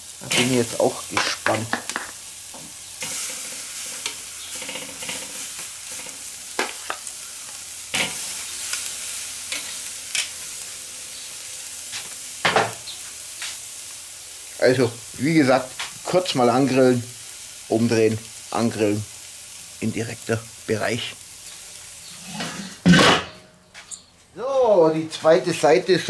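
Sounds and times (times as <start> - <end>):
meat sizzling on grill: 0.0 - 23.3.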